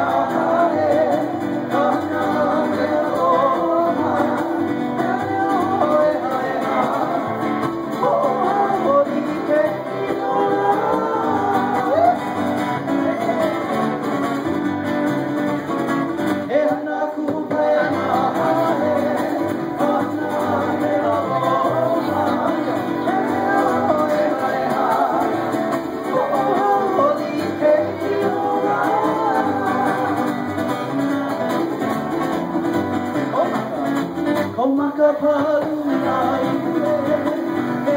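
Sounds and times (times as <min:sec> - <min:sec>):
person singing: 0:00.0 - 0:14.1, 0:16.4 - 0:37.9
strummed acoustic guitar: 0:00.0 - 0:37.9.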